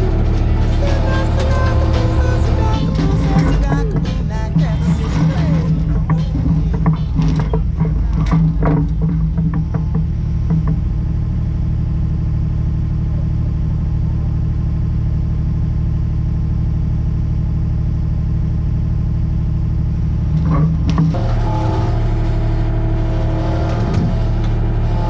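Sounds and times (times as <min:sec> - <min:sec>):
engine running steadily: 0:00.0 - 0:20.2, 0:20.9 - 0:25.0.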